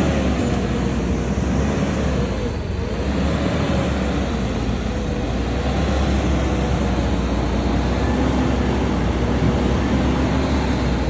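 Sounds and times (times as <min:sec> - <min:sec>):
diesel engine heavy rumble: 0:00.0 - 0:11.0.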